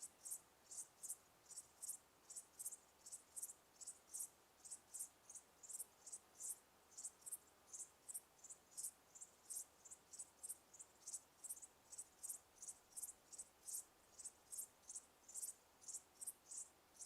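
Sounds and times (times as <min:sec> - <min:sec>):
crickets chirping: 0:00.0 - 0:17.0
faint hiss: 0:00.0 - 0:17.0.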